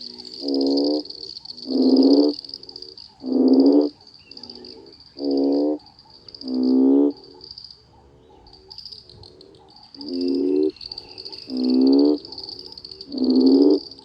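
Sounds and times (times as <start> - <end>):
faint frog croaks: 0.0 - 14.0
frog croaking loudly nearby: 0.0 - 14.0
high trilling frog chorus: 0.0 - 14.0.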